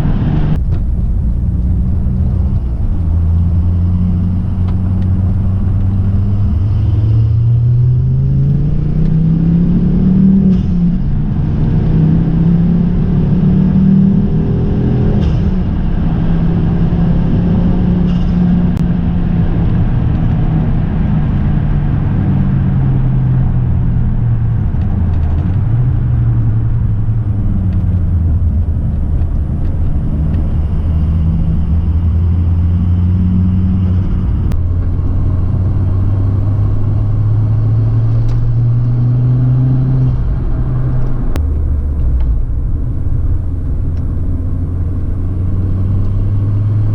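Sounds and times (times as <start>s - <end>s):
car engine running: 0.0s - 46.9s.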